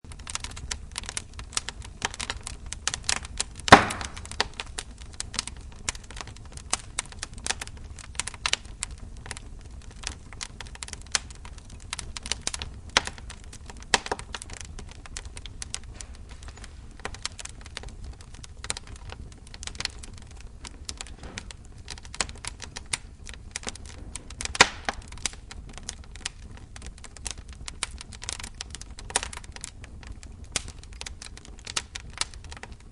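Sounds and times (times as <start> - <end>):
wood fire crackling and popping: 0.1 - 32.9.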